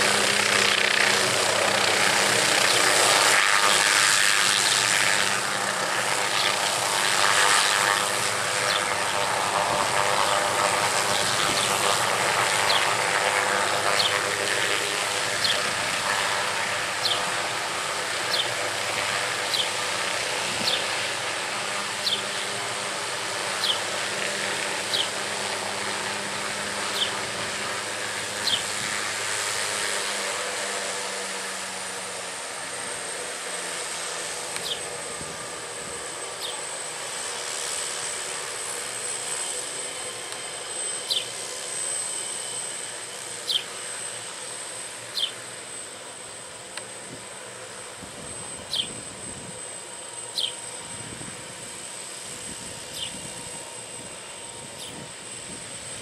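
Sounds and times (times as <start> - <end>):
helicopter turbine idling: 0.0 - 56.0.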